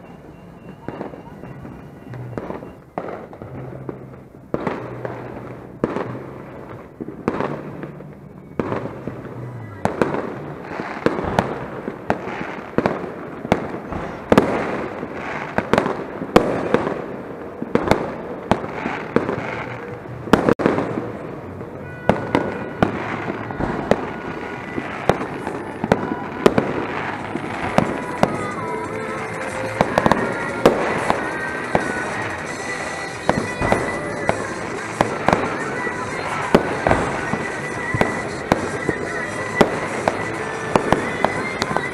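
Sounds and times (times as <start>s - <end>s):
background music: 0.0s - 41.9s
fireworks bangs and crackles: 0.0s - 41.9s.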